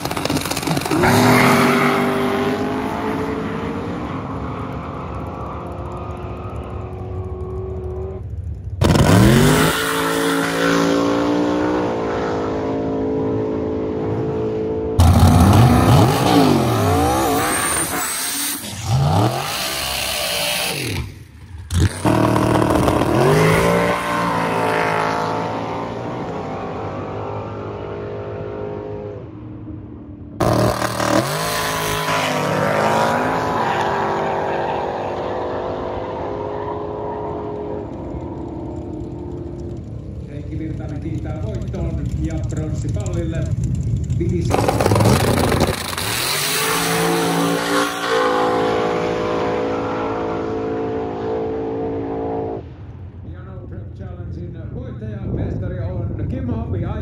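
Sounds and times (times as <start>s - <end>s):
race car engines at full throttle: 0.0s - 57.0s.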